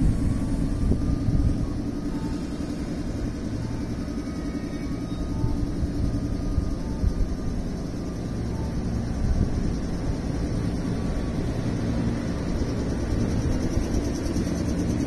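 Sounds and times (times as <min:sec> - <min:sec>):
electric train pulling away: 0:00.0 - 0:15.0.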